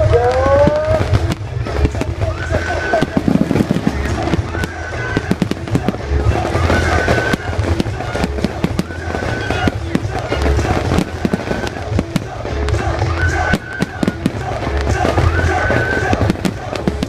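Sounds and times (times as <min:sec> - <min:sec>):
fireworks pops and bangs: 0:00.0 - 0:17.0
music playing: 0:00.0 - 0:17.0.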